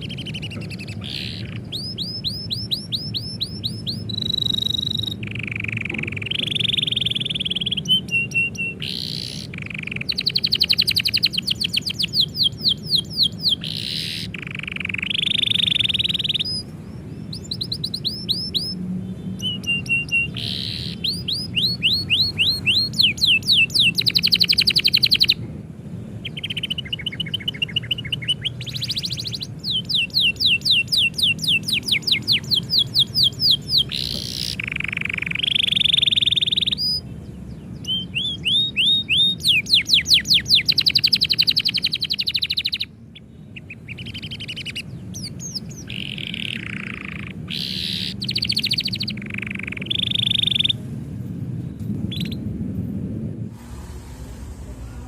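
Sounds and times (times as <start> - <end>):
canary singing trills: 0.0 - 50.9, 52.0 - 52.5.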